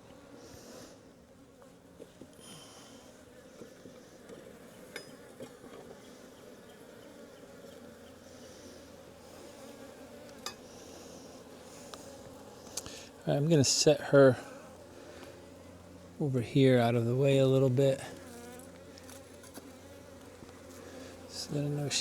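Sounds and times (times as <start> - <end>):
bees humming: 0.0 - 22.0.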